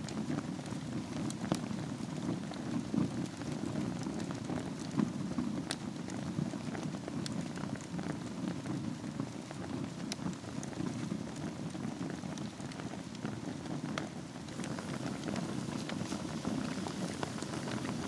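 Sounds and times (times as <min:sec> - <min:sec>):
fire crackling and popping: 0:00.0 - 0:18.0
fire flames rushing: 0:00.0 - 0:18.0.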